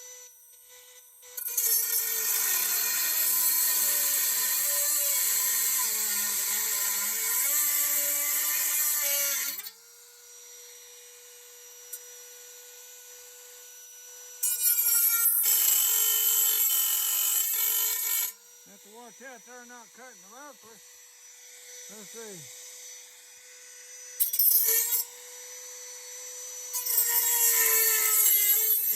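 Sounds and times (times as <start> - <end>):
power tool grinding metal: 0.0 - 28.9.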